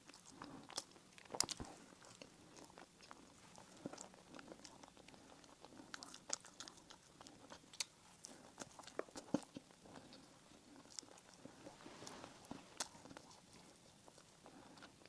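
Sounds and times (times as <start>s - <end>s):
chewing bread: 0.0s - 15.0s.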